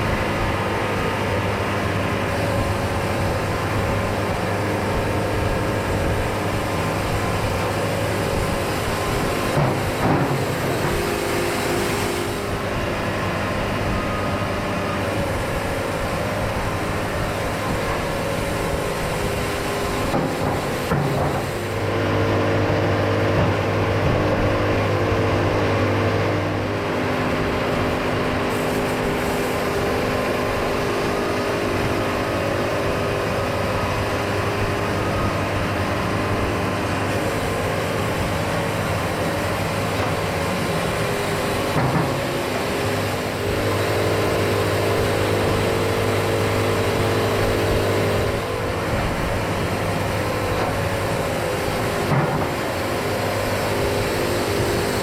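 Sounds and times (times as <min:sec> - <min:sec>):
band sawmill engine drone: 0:00.0 - 0:55.0.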